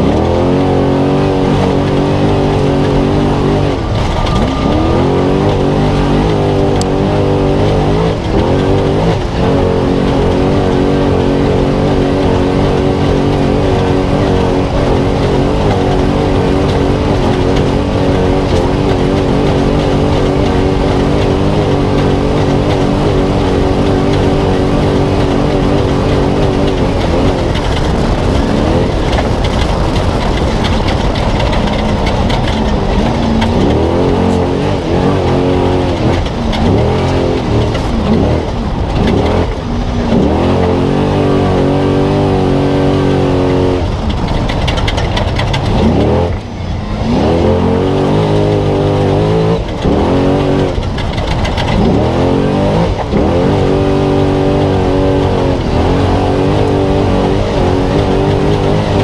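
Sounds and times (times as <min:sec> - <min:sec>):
constant rushing noise: 0:00.0 - 0:59.0
truck engine revving: 0:00.0 - 0:59.0.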